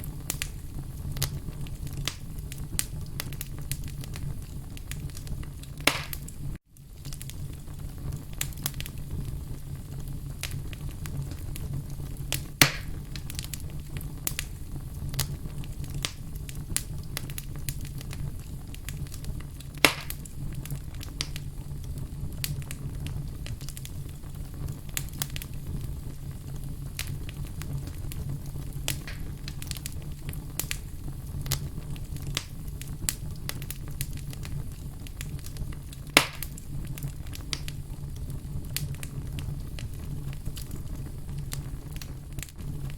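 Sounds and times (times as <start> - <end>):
fire snaps and pops: 0.0 - 42.9
wood fire crackling: 0.0 - 42.9.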